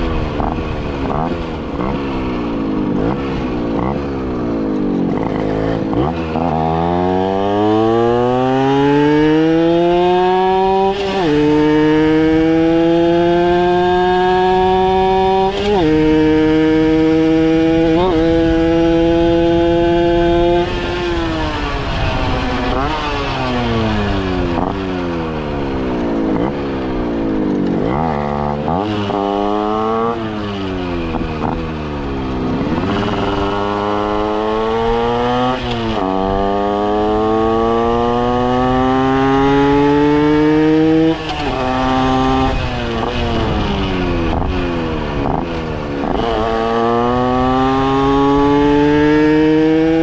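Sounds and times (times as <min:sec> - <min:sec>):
two-stroke moped engine revving: 0:00.0 - 0:50.0.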